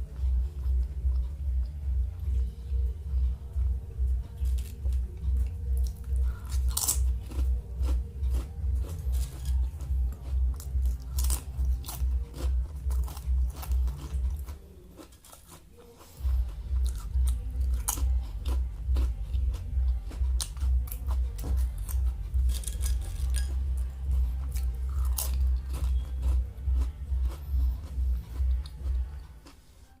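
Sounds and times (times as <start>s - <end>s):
chewing crunchy food: 4.0s - 30.0s.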